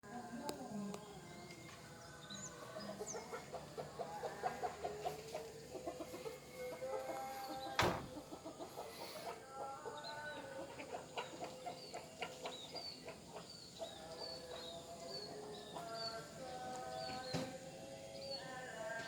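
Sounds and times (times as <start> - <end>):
chickens clucking: 0.2 - 18.5.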